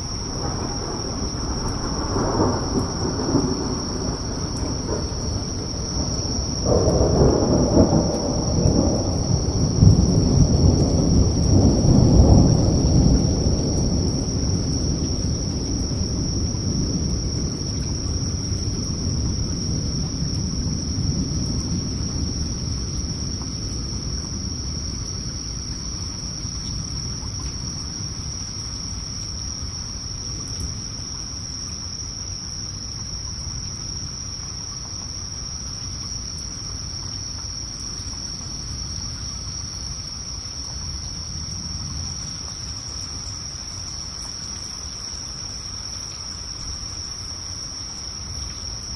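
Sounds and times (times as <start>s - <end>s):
low thunder rumble: 0.0s - 30.9s, 38.4s - 47.4s
night insects chorus: 0.0s - 48.9s.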